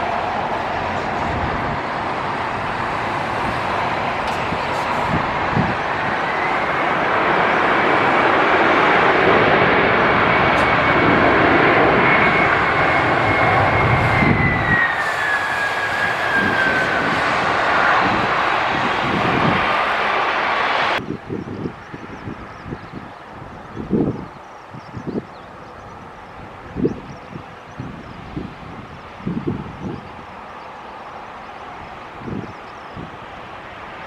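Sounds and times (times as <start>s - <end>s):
high jet engine whine: 0.0s - 34.0s
jet engine roar: 0.0s - 34.0s.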